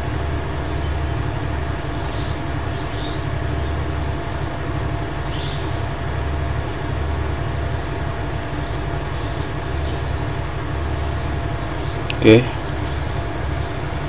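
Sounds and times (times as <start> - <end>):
faint steady hum: 0.0 - 14.0
low machine rumble: 0.0 - 14.0.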